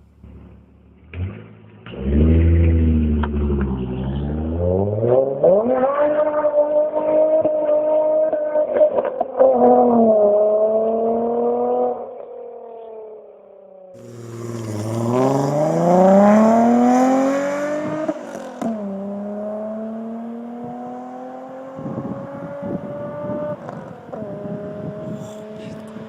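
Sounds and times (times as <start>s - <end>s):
car engine accelerating: 0.1s - 12.1s, 14.0s - 26.0s.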